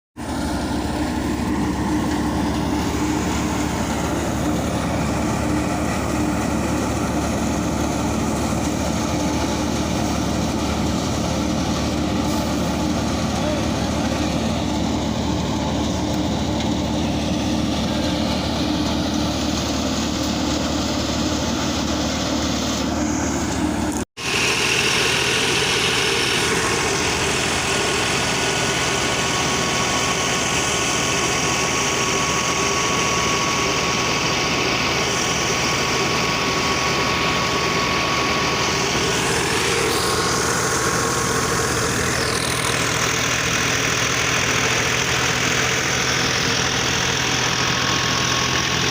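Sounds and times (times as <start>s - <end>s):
thresher engine running: 0.2s - 48.9s.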